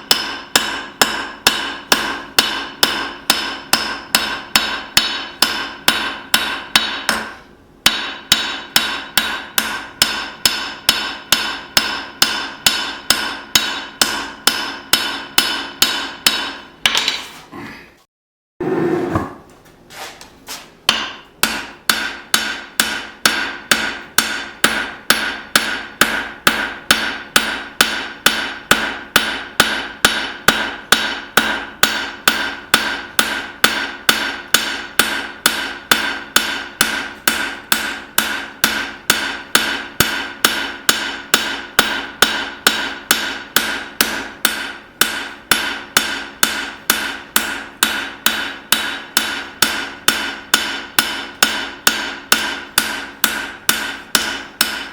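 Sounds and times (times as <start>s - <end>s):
hammer ringing on anvil: 0.0s - 17.0s, 20.9s - 54.9s.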